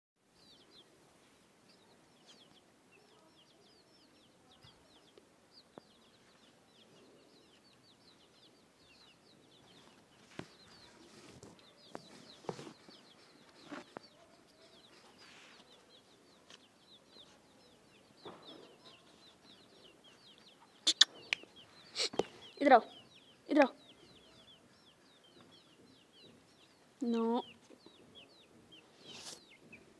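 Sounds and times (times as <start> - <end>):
birds chirping: 0.2 - 29.9.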